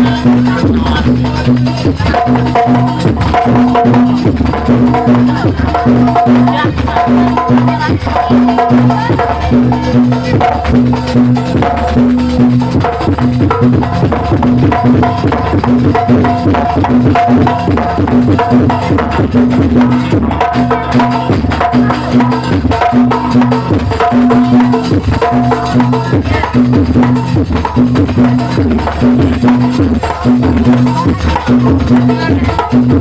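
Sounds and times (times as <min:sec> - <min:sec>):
fast dense drumming: 0:00.0 - 0:33.0.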